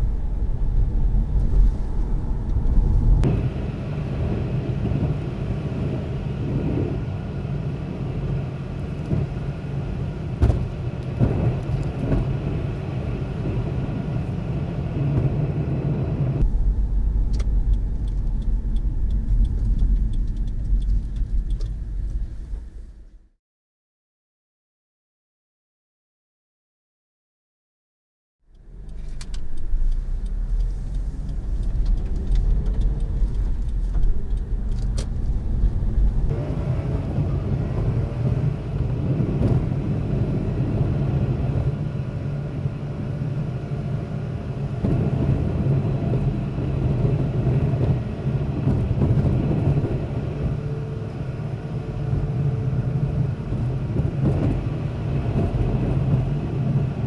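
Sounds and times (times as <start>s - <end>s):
car engine and road noise: 0.0s - 23.4s, 28.4s - 57.0s.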